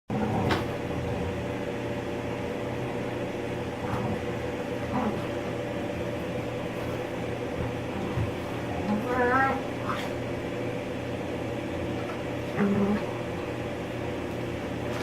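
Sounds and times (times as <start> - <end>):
mechanical hum: 0.1 - 15.0.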